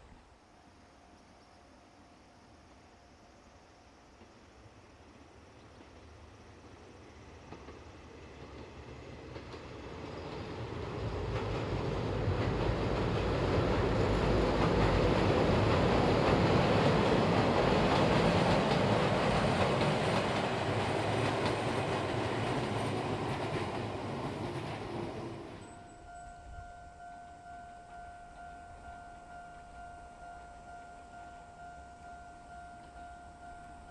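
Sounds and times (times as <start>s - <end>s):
electric train passing: 0.0s - 33.9s.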